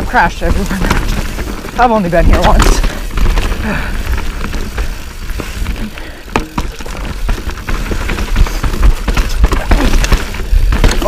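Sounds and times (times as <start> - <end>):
bike rattling and knocking: 0.0 - 11.0
bike tyres rolling over dirt: 0.0 - 11.0.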